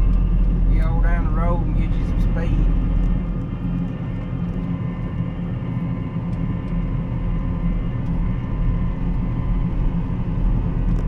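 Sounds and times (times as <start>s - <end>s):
combine harvester engine drone: 0.0s - 11.0s.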